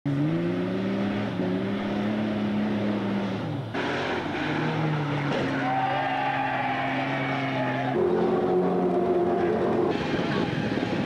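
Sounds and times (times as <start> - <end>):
vehicle engine running: 0.1 - 11.0.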